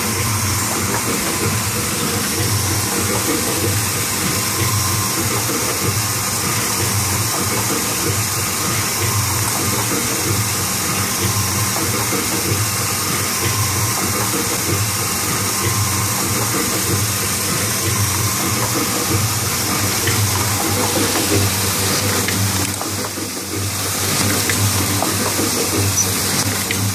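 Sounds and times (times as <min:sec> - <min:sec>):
press machine hiss and whir: 0:00.0 - 0:26.9
pulsing low hum: 0:00.0 - 0:26.9.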